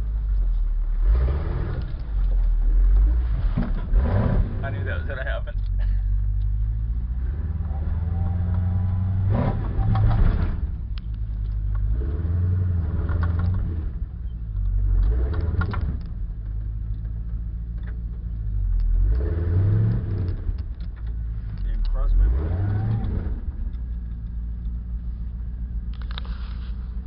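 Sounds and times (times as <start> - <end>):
rattling and scraping: 0.2 - 27.0.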